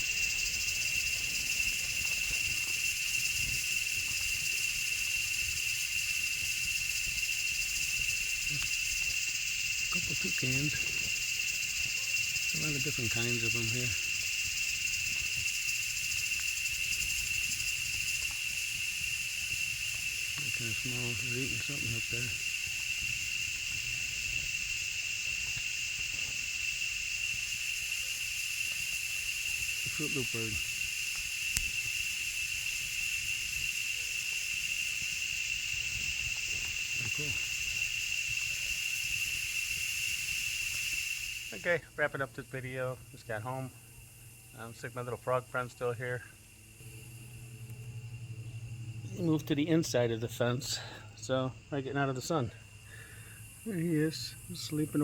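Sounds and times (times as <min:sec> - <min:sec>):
faint hiss: 0:00.0 - 0:55.0
insect chorus buzzing: 0:00.0 - 0:55.0.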